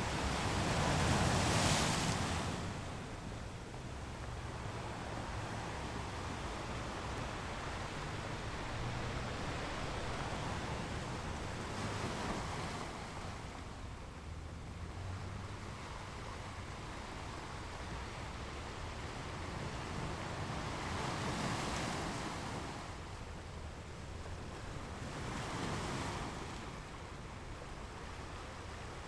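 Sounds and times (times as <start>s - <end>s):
ocean waves breaking on shore: 0.0s - 29.0s.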